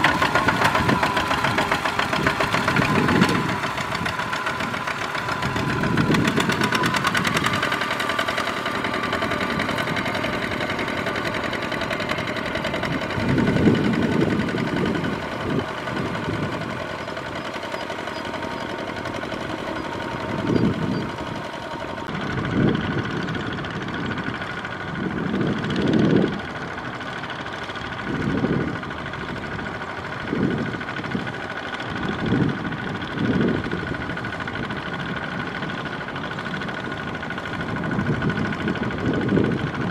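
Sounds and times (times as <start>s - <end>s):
diesel tractor engine running: 0.0s - 39.9s
wheels churning through water: 0.0s - 39.9s.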